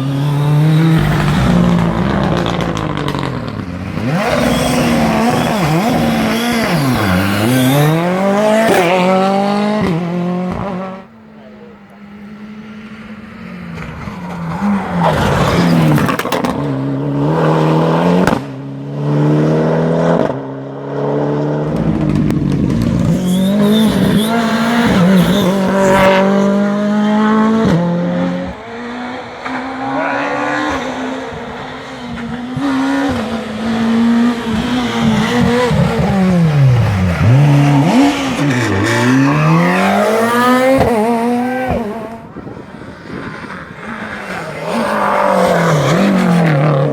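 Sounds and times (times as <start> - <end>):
rally car engines revving: 0.0 - 46.9.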